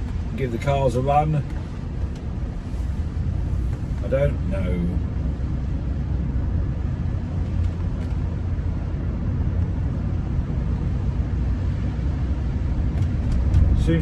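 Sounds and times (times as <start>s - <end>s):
engine rumble: 0.0s - 14.0s
tyres on a wet road: 0.0s - 14.0s.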